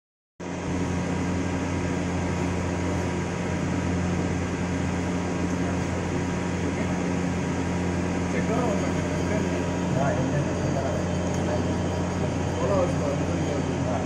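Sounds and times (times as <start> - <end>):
idle lathe machine hum: 0.4 - 14.0.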